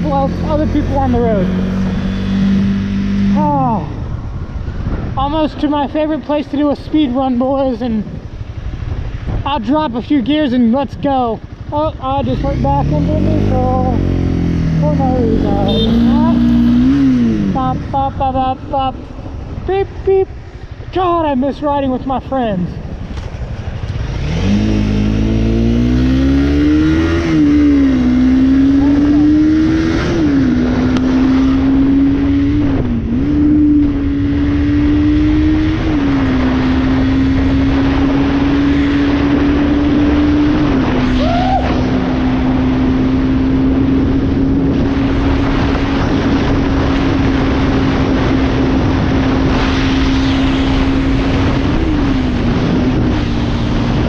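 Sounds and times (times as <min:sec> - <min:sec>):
motorcycle engine accelerating: 0:00.0 - 0:09.8, 0:11.3 - 0:19.7, 0:22.8 - 0:54.0
wind rush: 0:00.0 - 0:54.0.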